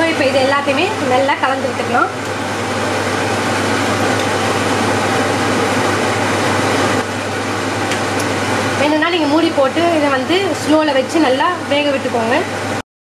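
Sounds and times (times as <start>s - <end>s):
fan-like rushing noise: 0.0s - 12.8s.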